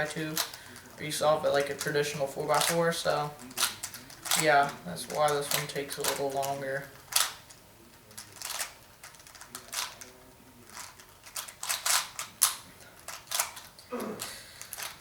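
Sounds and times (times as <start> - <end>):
puzzle cube clicking: 0.0 - 7.5, 8.2 - 10.1, 10.7 - 15.0.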